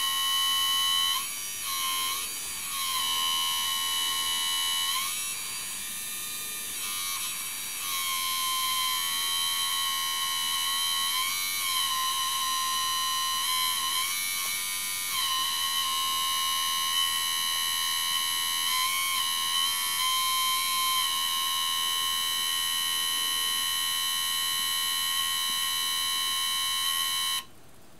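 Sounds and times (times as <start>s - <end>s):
hydraulic pump whining: 0.0s - 27.5s.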